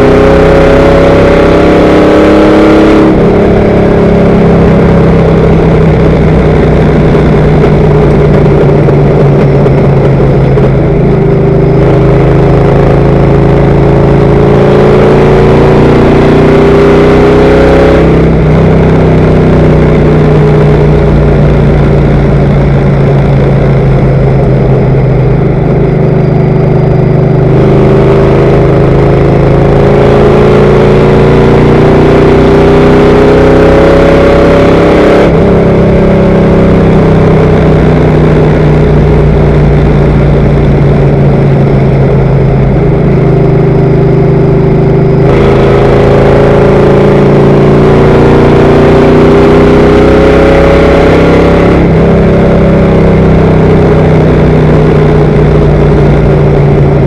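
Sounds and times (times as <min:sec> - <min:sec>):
racing car engine drone: 0:00.0 - 0:57.0.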